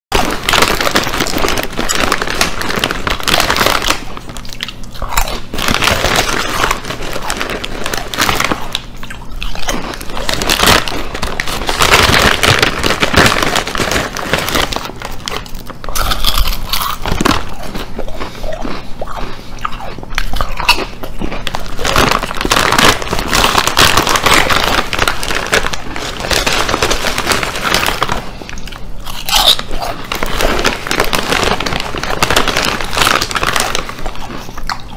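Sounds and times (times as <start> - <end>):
plastic bag rustling: 0.1 - 18.8, 20.8 - 34.9
crisps crunching: 0.1 - 34.9.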